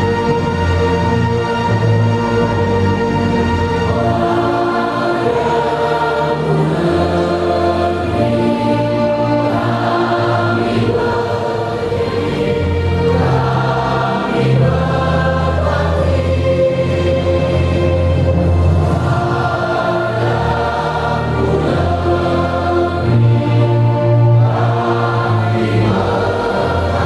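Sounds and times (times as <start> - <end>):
choir singing long notes: 0.0 - 27.0
musical accompaniment: 0.0 - 27.0.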